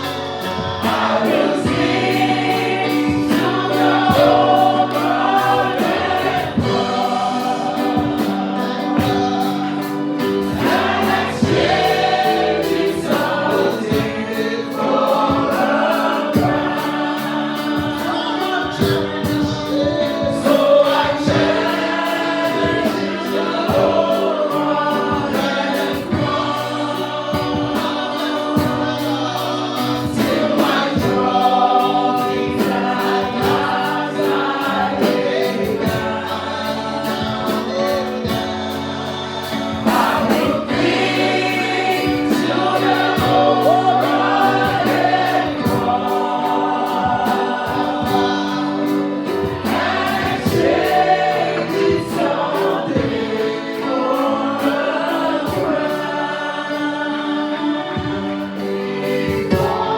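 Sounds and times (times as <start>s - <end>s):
steady beat: 0.0s - 55.9s
choir singing gospel song: 0.0s - 59.9s
instrumental accompaniment: 0.0s - 59.9s.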